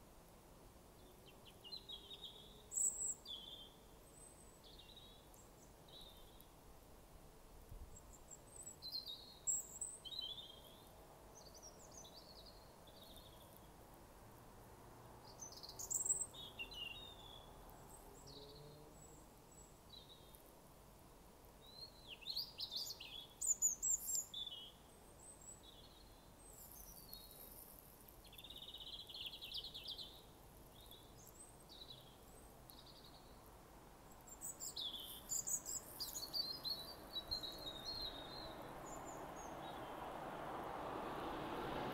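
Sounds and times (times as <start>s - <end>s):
songbirds singing: 0.9s - 6.6s, 8.0s - 13.8s, 15.0s - 20.5s, 21.5s - 41.9s.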